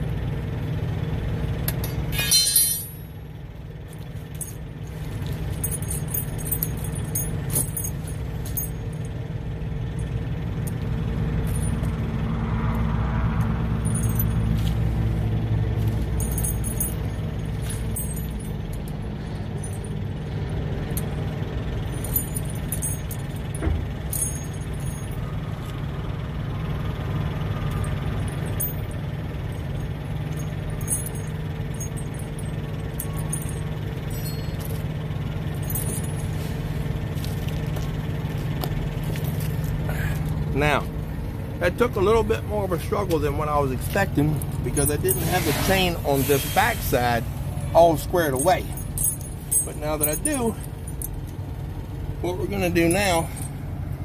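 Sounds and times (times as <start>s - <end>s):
low engine hum: 0.0s - 54.0s
tire chains clinking: 0.0s - 54.0s.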